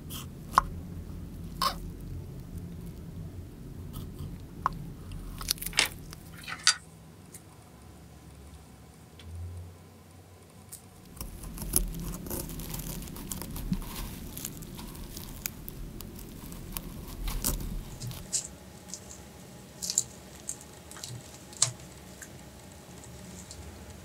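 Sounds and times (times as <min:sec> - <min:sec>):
fruit peel crackling and tearing: 0:00.1 - 0:06.7, 0:10.6 - 0:24.0.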